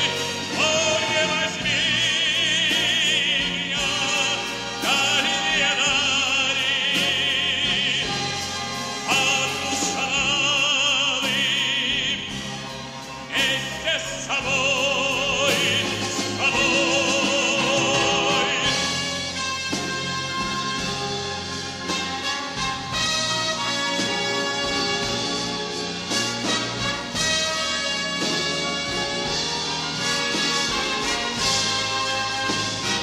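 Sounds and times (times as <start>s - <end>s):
operatic singing with accompaniment: 0.0s - 33.0s.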